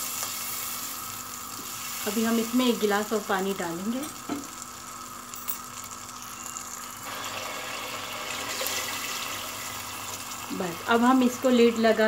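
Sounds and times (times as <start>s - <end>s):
spices sizzling in a pot: 0.0s - 12.0s.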